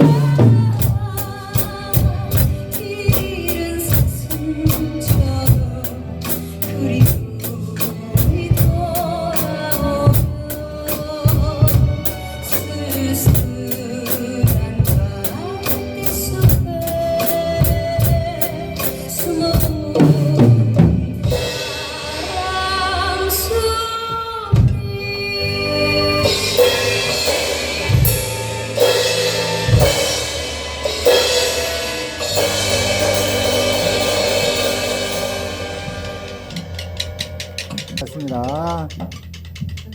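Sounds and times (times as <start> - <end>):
backing track melody: 0.0 - 39.8
acoustic drum kit beat: 0.0 - 39.9.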